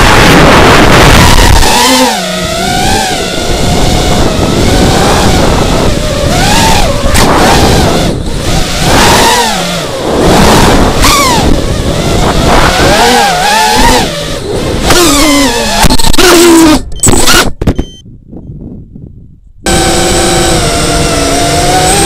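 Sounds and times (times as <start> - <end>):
drone motors whining: 0.0 - 18.0, 19.7 - 22.0
wind rush on microphone: 0.0 - 22.0.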